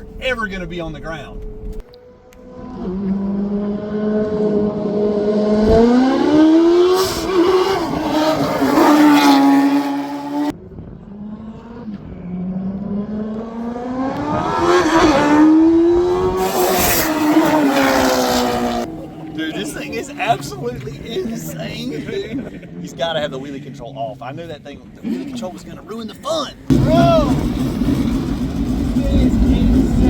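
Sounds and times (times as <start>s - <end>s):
truck engine accelerating hard: 1.4s - 23.9s, 26.7s - 30.0s.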